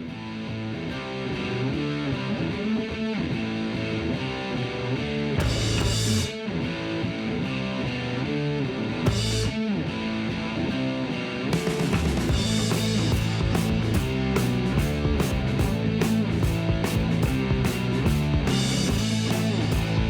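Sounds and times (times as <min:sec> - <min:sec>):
distorted electric guitar music: 0:00.0 - 0:20.0.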